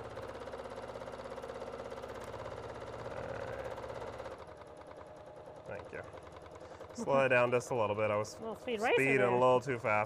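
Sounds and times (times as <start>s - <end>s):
sewing machine stitching fast: 0.0s - 8.6s.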